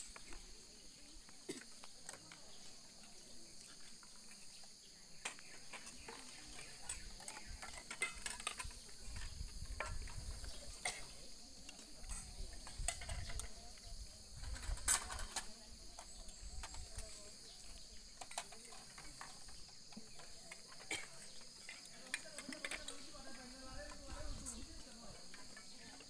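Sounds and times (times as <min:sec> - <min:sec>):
crickets and insects chirring: 0:00.0 - 0:26.0.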